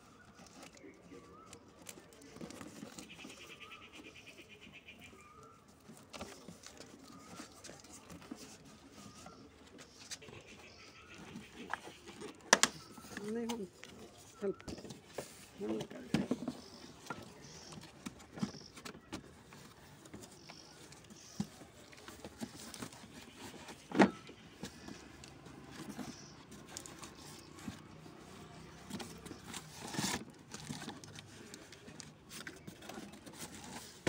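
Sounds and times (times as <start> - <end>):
cardboard rustling and scraping: 0.1 - 4.4, 5.0 - 34.0.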